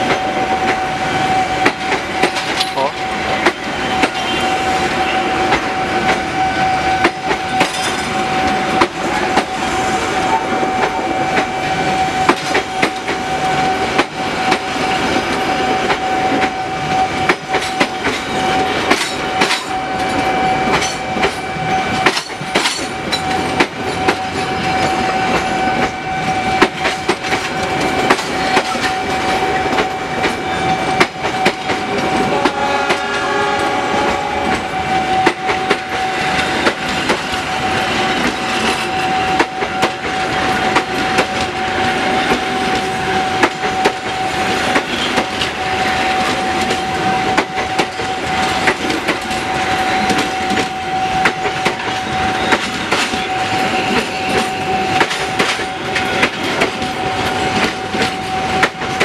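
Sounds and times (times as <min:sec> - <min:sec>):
level crossing warning tone: 0:00.0 - 0:59.0
train wheels clattering on rail joints: 0:00.0 - 0:59.0.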